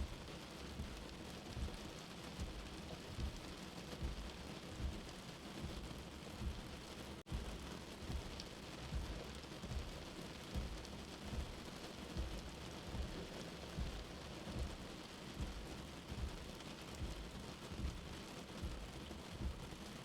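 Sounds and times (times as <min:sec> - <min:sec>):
low heartbeat thumping: 0:00.0 - 0:19.9
steady rain: 0:00.0 - 0:20.0.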